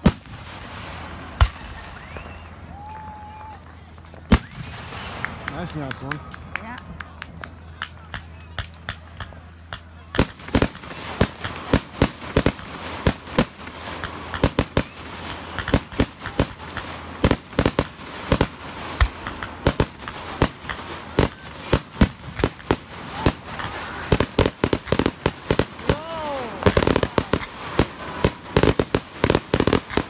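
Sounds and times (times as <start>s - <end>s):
fireworks bangs and cracks: 0.0s - 30.0s
steady background noise: 0.0s - 30.0s.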